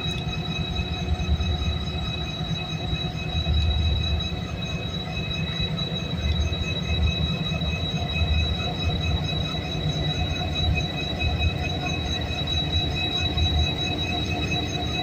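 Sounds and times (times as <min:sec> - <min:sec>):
high-pitched whines: 0:00.0 - 0:15.0.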